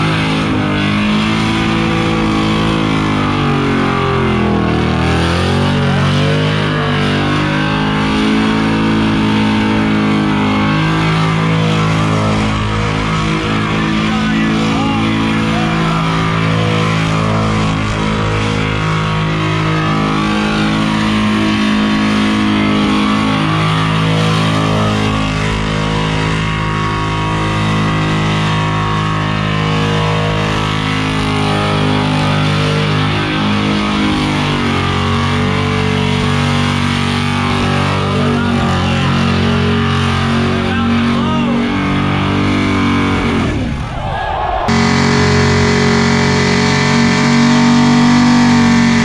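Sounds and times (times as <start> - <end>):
car engine at high revs: 0.0 - 49.0
tyres screaming on pavement: 0.0 - 49.0.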